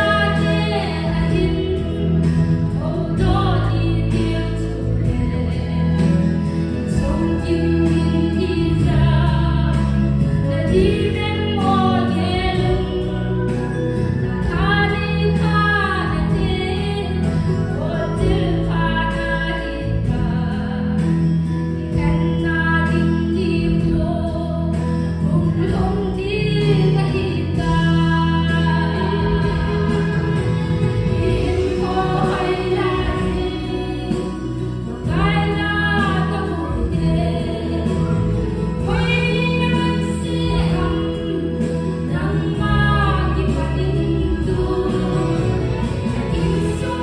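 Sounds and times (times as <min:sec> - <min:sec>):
instrumental backing with bass: 0:00.0 - 0:47.0
woman singing gospel: 0:00.0 - 0:47.0.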